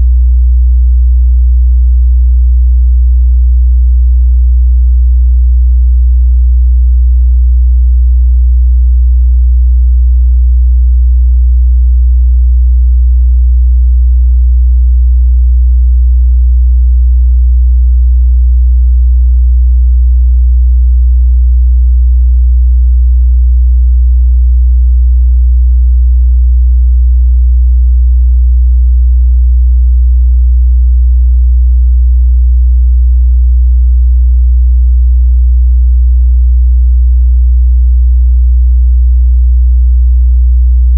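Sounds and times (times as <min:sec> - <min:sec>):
low sine-wave test tone: 0:00.0 - 0:37.4, 0:39.8 - 0:40.9.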